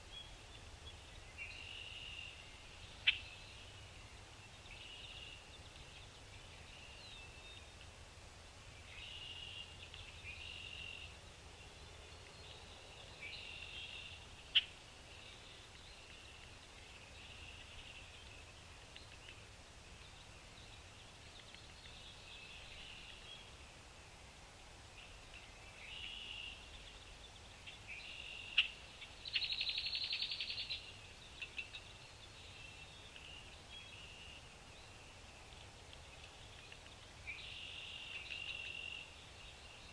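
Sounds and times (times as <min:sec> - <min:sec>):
small birds chirping: 0:00.0 - 0:07.9, 0:08.7 - 0:23.6, 0:24.9 - 0:39.9.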